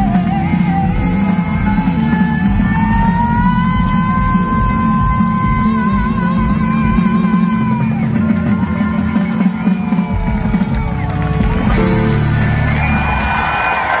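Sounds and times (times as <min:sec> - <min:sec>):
person singing: 0:00.0 - 0:12.6
crowd noise: 0:00.0 - 0:14.0
live pop-rock band: 0:00.0 - 0:14.0.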